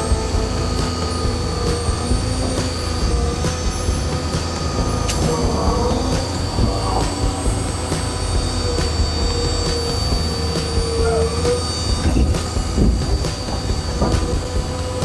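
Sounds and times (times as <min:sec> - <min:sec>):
diesel engine rumble: 0:00.0 - 0:15.0
hydraulic whine: 0:00.0 - 0:15.0
metallic clanks: 0:00.0 - 0:15.0.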